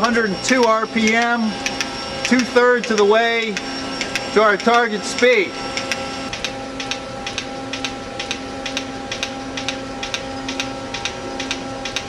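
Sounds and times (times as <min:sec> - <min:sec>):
motor-driven drum humming: 0:00.0 - 0:12.0
sharp repeating tick: 0:00.0 - 0:12.0.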